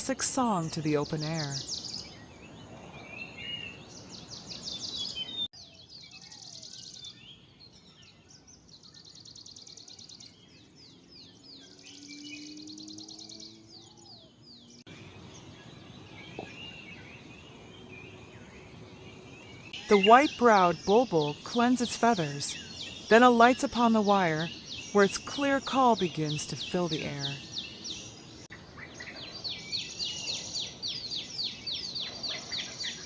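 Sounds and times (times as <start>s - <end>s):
soft bird chirps: 0.0s - 33.0s
bird singing high trills: 0.5s - 33.0s.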